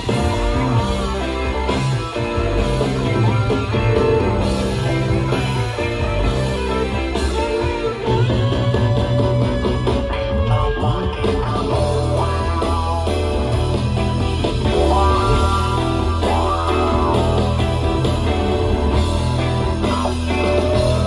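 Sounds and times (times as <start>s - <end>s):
bass guitar: 0.0s - 21.0s
electric guitar: 0.0s - 21.0s
rock band playing: 0.0s - 21.0s.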